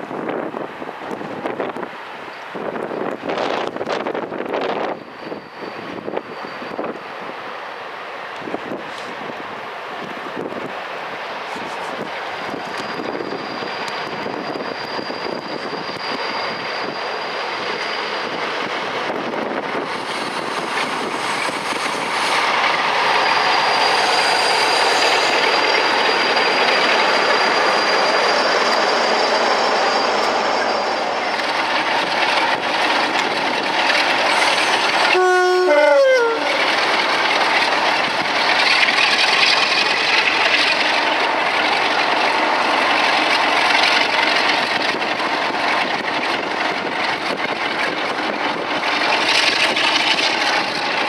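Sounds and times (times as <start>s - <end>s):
train rolling rumble: 0.0s - 51.0s
high wheel squeal: 3.4s - 7.8s, 11.3s - 51.0s.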